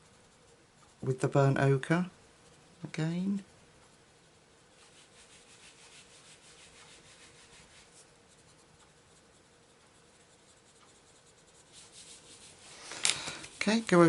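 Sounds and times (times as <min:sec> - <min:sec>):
pencil shading on paper: 0:00.0 - 0:01.8, 0:02.4 - 0:12.8, 0:13.4 - 0:14.0.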